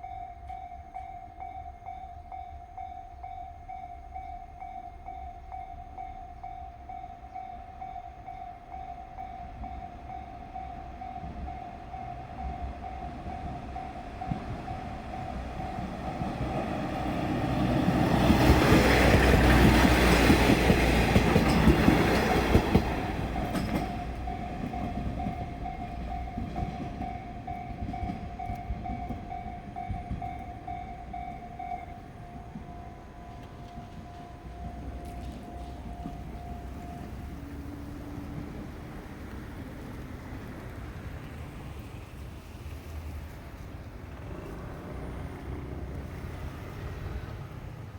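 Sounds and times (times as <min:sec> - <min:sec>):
level crossing warning bell: 0:00.0 - 0:40.7
diesel train passing: 0:00.0 - 0:47.9.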